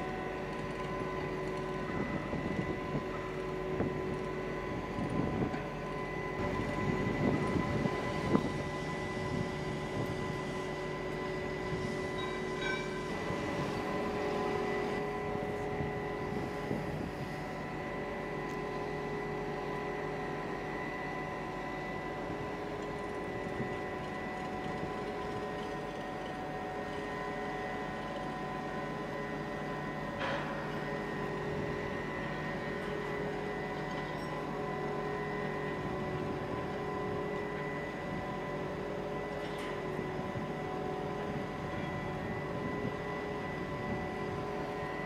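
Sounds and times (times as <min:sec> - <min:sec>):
diesel engine drone with whine: 0:00.0 - 0:45.0.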